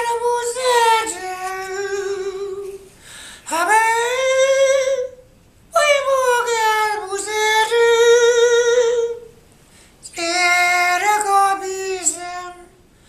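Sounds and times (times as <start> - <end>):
man singing in a high voice: 0.0 - 9.4, 10.0 - 12.9.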